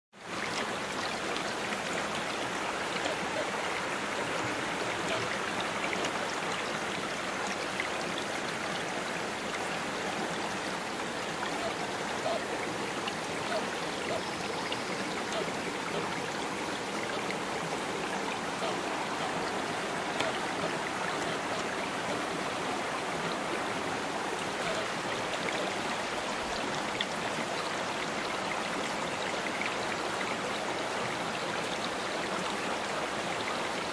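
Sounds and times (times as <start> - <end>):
creek water rushing over rocks: 0.1 - 33.9.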